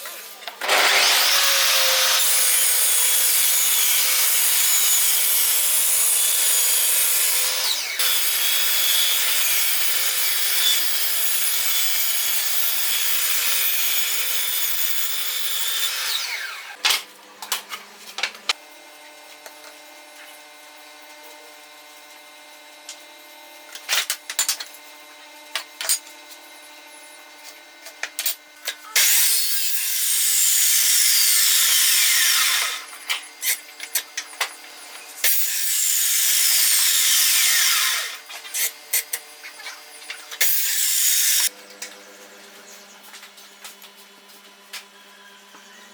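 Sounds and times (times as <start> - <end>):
power saw cutting wood: 0.0 - 17.0, 25.4 - 45.9.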